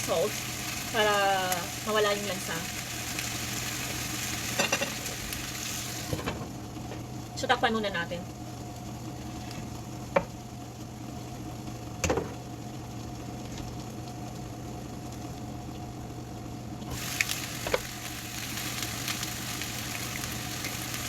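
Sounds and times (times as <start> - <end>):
food frying in oil: 0.0 - 21.0
steady hum: 0.0 - 21.0.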